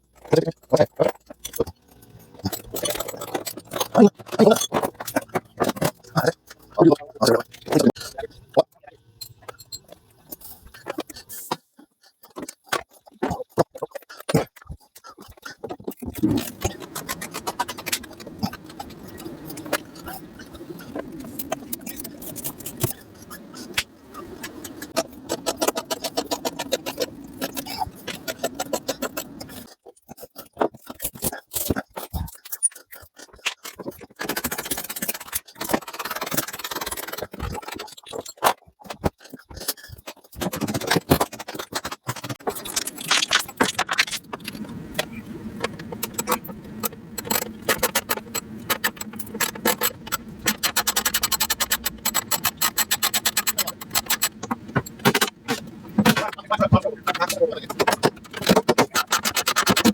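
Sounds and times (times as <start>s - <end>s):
tools and metal parts clinking: 0.1s - 8.0s, 15.6s - 29.7s, 32.4s - 39.1s, 40.0s - 59.9s.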